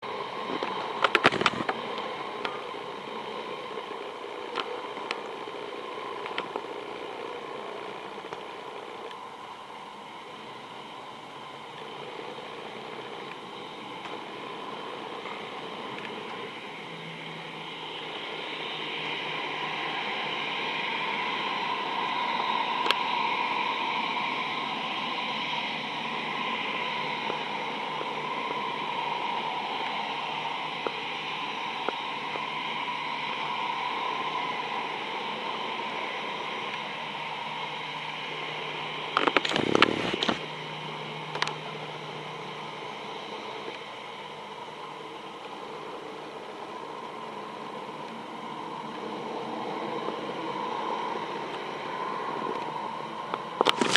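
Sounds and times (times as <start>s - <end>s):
jet engines hissing and whining: 0.0s - 53.9s.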